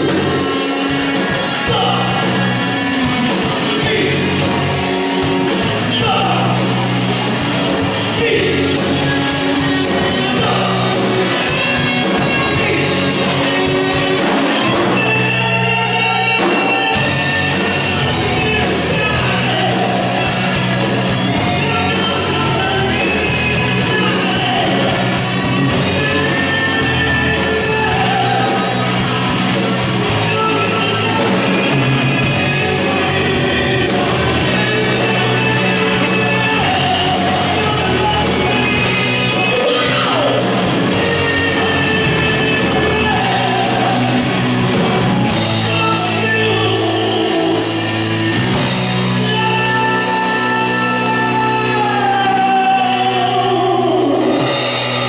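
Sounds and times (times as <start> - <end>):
person singing: 0.0 - 55.0
rock band playing live: 0.0 - 55.0.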